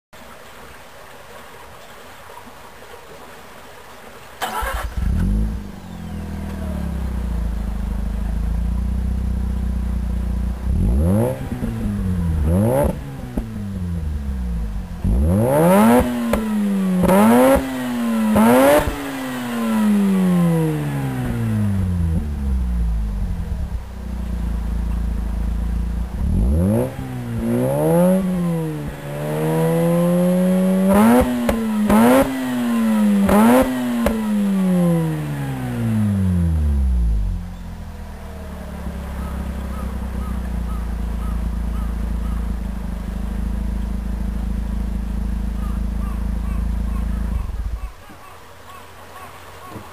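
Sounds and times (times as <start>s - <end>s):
exhaust cracks: 4.4s - 47.9s
rotary engine revving: 4.4s - 49.9s.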